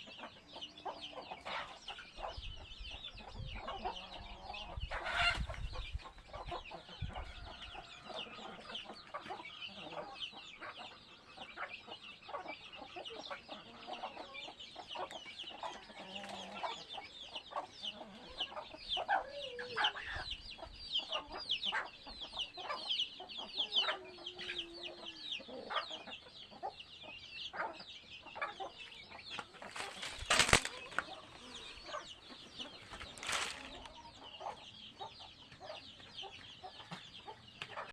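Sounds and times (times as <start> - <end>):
chickens clucking: 0.0 - 37.9
chicks peeping: 0.0 - 37.9.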